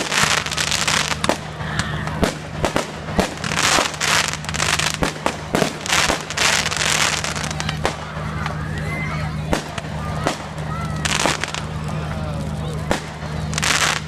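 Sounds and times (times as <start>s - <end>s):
crackling fizzing fireworks: 0.0s - 14.0s
fireworks bangs and cracks: 0.0s - 14.0s
steady low hum: 0.0s - 14.0s.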